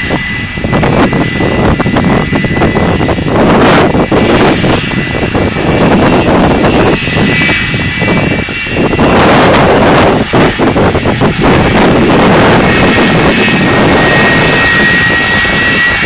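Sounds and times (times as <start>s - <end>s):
jet engine roar with whine: 0.0s - 16.0s
wind buffeting microphone: 0.0s - 16.0s.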